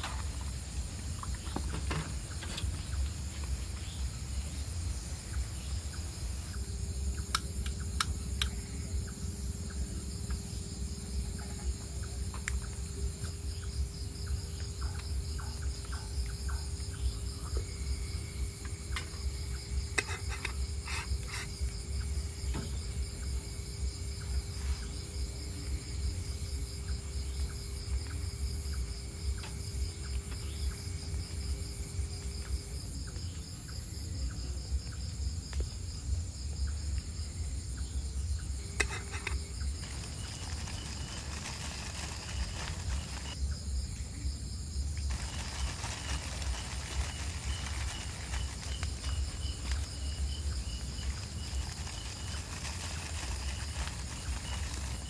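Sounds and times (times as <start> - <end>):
night insects chirring: 0.0 - 55.0.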